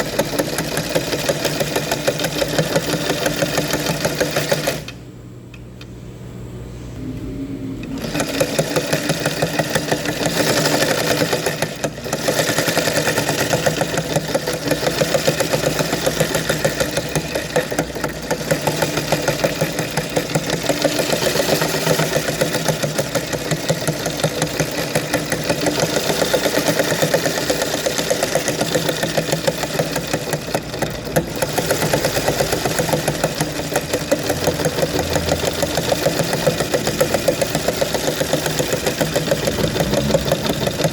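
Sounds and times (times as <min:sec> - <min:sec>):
sewing machine stitching: 0:00.0 - 0:05.0, 0:07.8 - 0:40.9.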